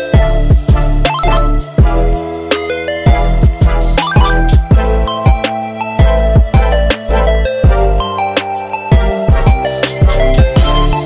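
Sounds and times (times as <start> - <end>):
hip-hop beat: 0.2 - 11.0.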